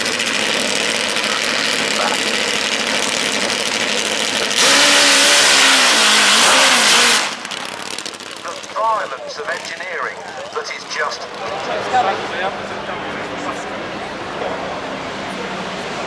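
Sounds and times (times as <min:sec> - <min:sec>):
rally car engine running hard: 0:00.0 - 0:16.0.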